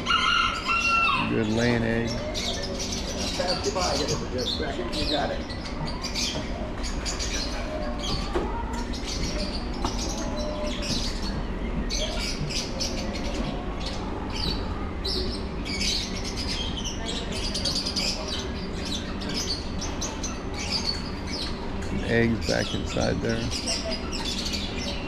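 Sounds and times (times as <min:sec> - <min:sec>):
caged birds chirping: 0:00.0 - 0:25.0.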